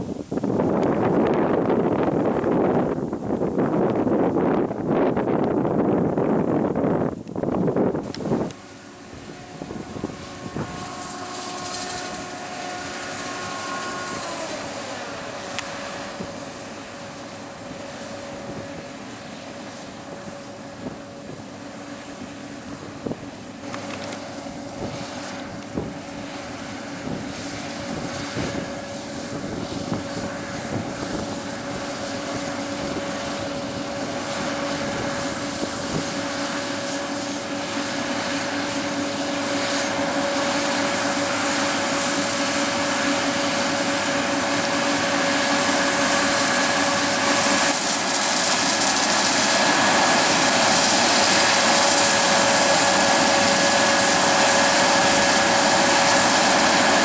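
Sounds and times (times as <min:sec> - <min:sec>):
diesel farm machine whining: 0:00.0 - 0:57.0.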